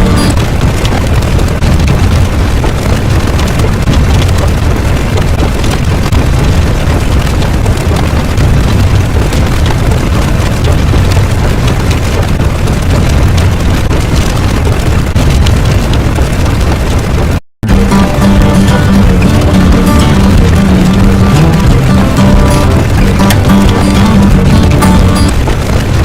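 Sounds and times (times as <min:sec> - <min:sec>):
loud low rumble: 0:00.0 - 0:26.0.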